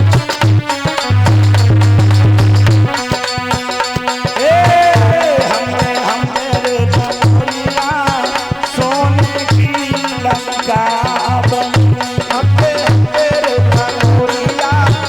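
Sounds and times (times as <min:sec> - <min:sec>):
hand drum rhythm: 0:00.0 - 0:15.0.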